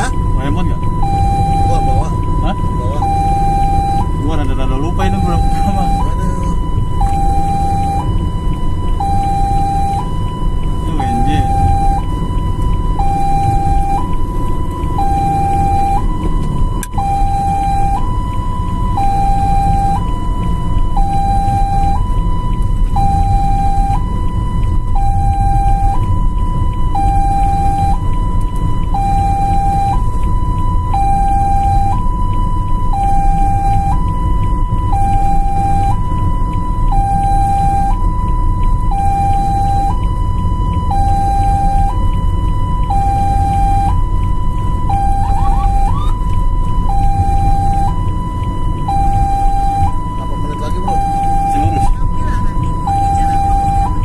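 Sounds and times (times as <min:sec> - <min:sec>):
ambulance siren hi-lo: 0:00.0 - 0:54.0
engine and road rumble: 0:00.0 - 0:54.0.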